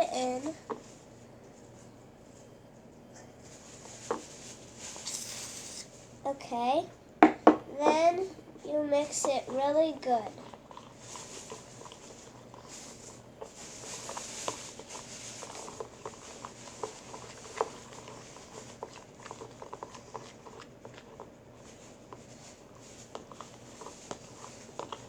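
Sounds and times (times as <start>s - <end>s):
soft squishing: 0.0s - 25.0s.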